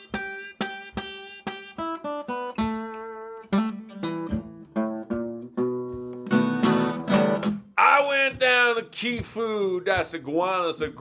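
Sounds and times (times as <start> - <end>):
acoustic guitar picked notes: 0.0 - 11.0.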